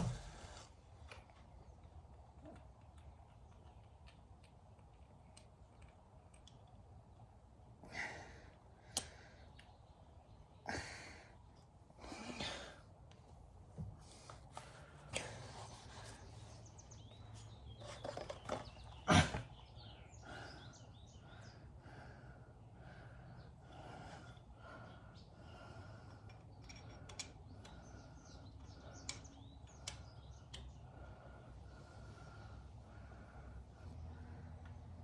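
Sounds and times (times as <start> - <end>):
small birds chirping: 0.0 - 13.0, 14.0 - 35.0.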